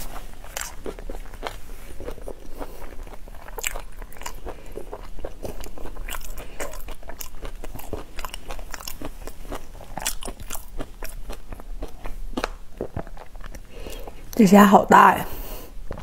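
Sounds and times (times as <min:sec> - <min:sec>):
person chewing crunchy food: 0:00.0 - 0:14.4, 0:15.6 - 0:16.0.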